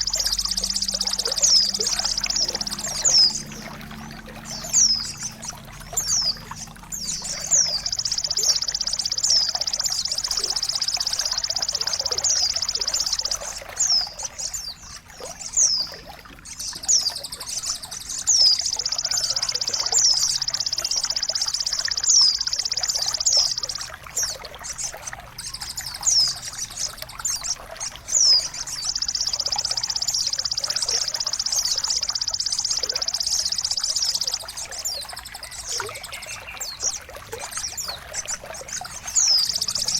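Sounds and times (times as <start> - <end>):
running water trickling: 0.0 - 39.9
songbird trilling: 0.0 - 39.9.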